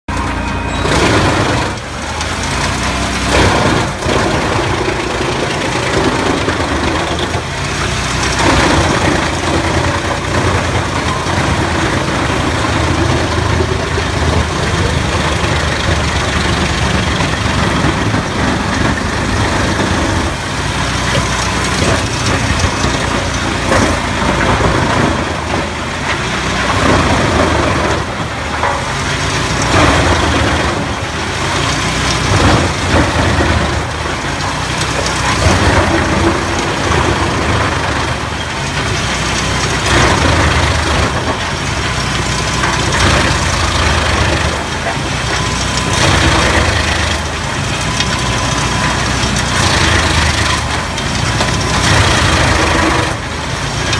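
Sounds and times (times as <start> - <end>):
wood chipper running: 0.1 - 53.9.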